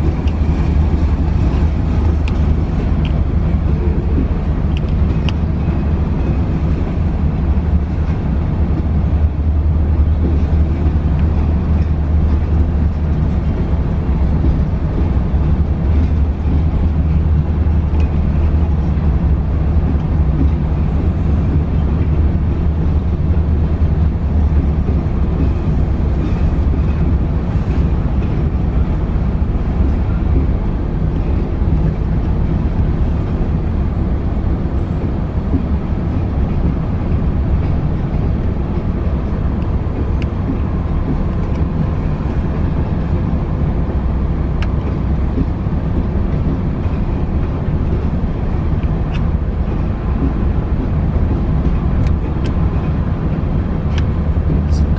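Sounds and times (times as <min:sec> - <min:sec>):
freight train rumbling on track: 0:00.0 - 0:54.9.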